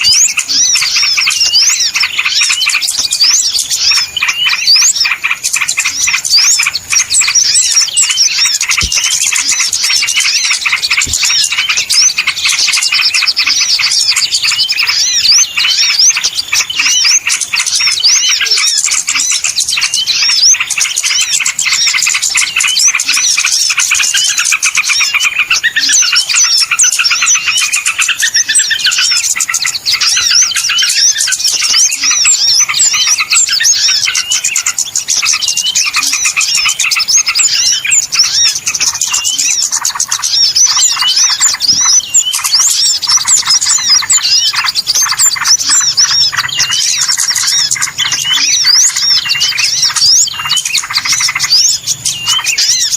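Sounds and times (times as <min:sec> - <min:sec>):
small birds twittering: 0:00.0 - 0:52.9.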